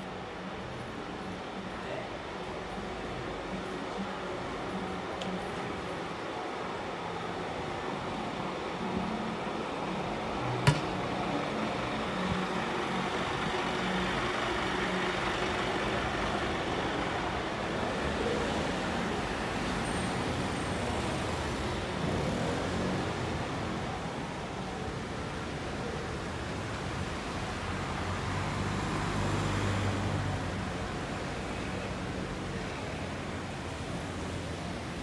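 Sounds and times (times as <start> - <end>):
bus engine running: 0.0 - 35.0
street traffic noise: 0.0 - 35.0.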